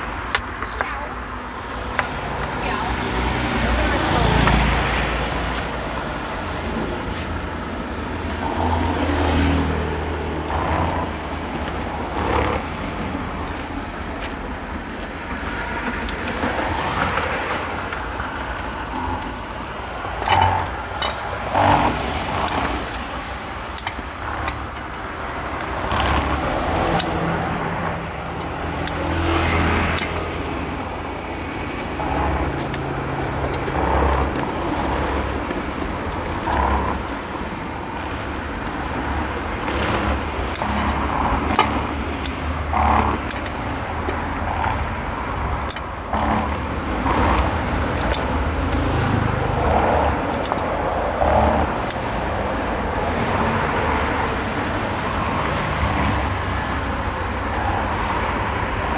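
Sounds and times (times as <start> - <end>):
passing traffic rumble: 0.0 - 58.9.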